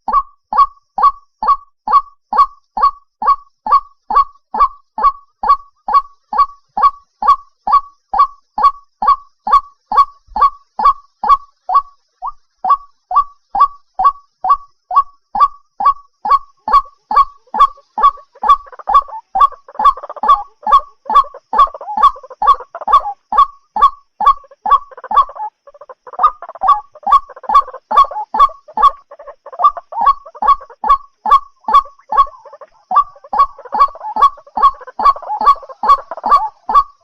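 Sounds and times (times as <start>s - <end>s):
rough chorus of bird calls: 0.0s - 37.0s.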